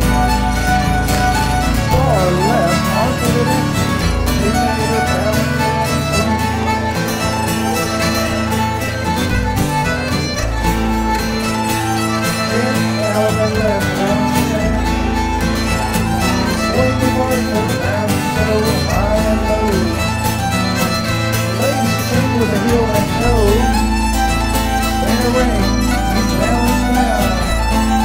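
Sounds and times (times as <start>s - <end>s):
baritone guitar bass notes: 0.0s - 28.0s
bowed keyed fiddle melody: 0.0s - 28.0s.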